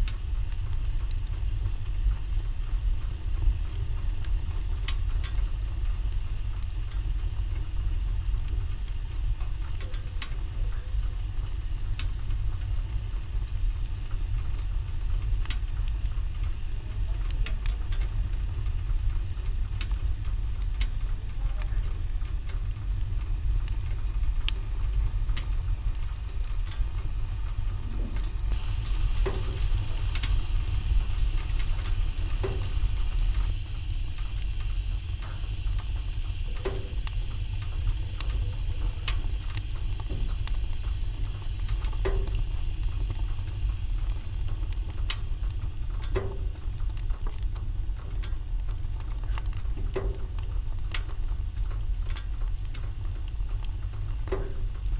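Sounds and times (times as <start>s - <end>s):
low rumble: 0.0s - 54.9s
sharp pops of fire: 0.0s - 54.9s
wood fire crackling: 0.0s - 54.9s.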